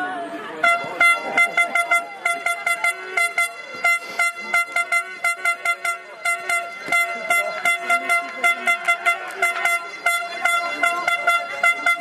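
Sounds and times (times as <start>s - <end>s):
air horns tooting: 0.6s - 12.0s.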